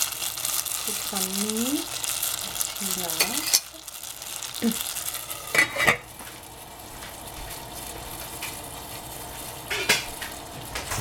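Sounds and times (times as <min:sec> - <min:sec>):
soup sizzling: 0:00.0 - 0:11.0.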